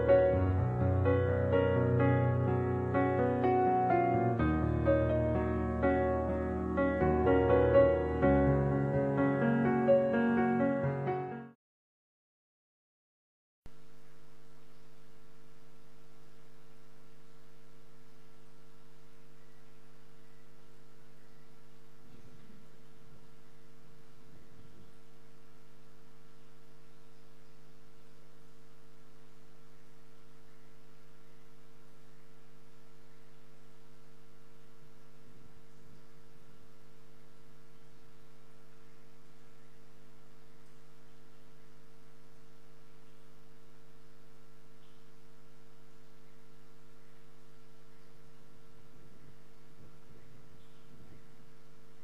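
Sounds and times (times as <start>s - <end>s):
faint background hiss: 0.0s - 11.0s, 13.7s - 52.0s
electrical mains hum: 0.0s - 11.1s, 13.7s - 52.0s.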